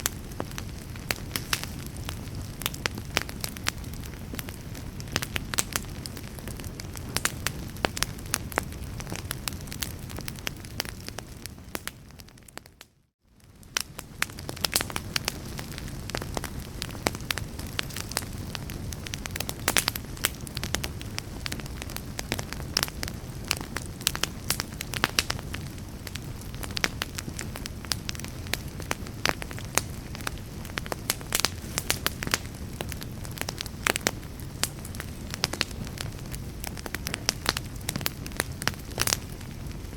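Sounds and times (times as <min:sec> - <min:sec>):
low rush of flames: 0:00.0 - 0:12.8, 0:13.4 - 0:39.9
fireplace fire crackling and popping: 0:00.0 - 0:39.9.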